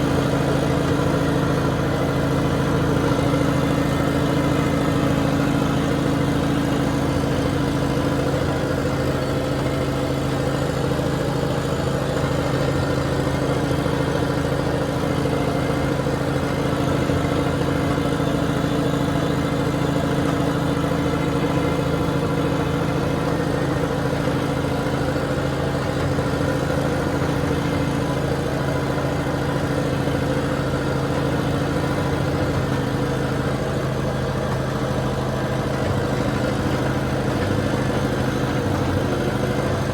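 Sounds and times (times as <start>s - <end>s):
heavy equipment engine drone: 0.0s - 39.9s.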